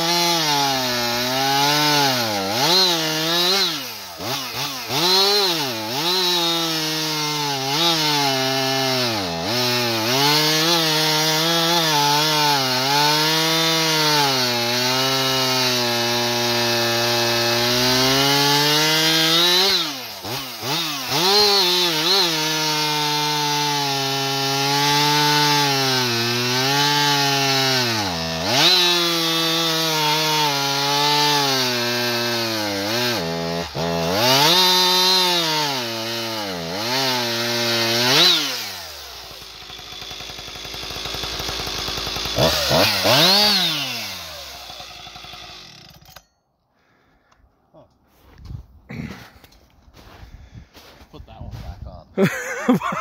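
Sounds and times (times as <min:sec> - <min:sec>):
chainsaw cutting log: 0:00.0 - 0:47.0, 0:48.9 - 0:49.5, 0:52.2 - 0:53.0.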